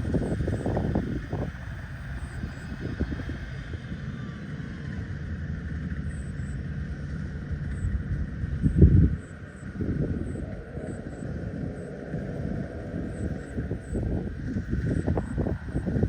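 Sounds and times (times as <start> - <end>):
farm machinery engines rumbling: 0.0 - 16.0.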